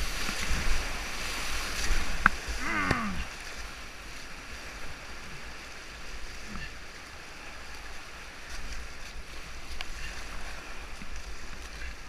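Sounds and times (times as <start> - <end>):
rushing whitewater: 0.0 - 12.0.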